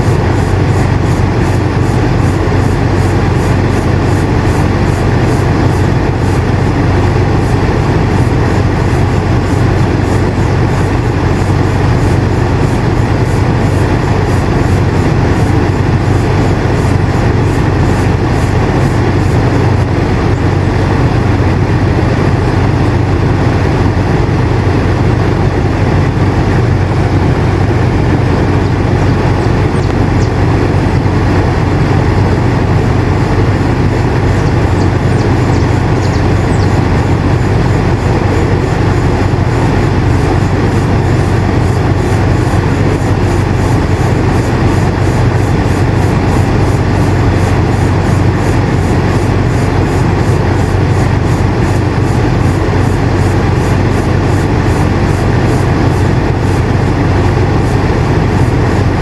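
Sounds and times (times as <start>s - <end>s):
air conditioner humming: 0.0s - 59.0s.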